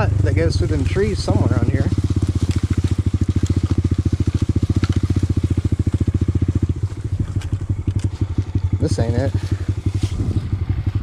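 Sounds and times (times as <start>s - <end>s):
small motorbike engine running: 0.0s - 11.0s.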